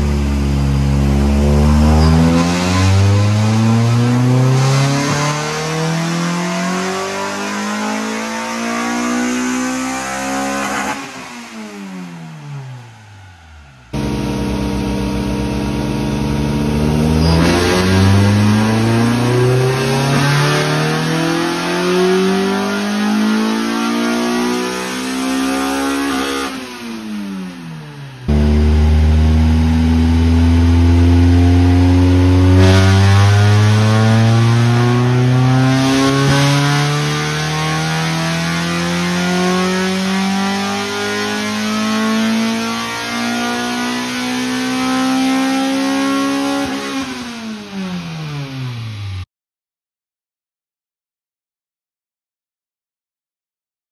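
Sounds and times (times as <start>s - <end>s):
car engine full-throttle revving: 0.0s - 49.1s.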